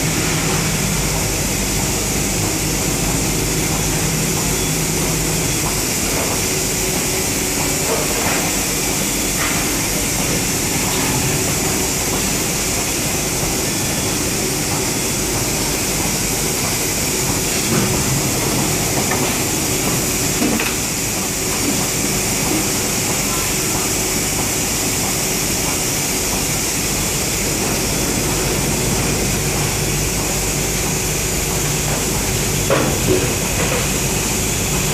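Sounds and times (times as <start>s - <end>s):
injection moulding machine hum: 0.0s - 34.9s.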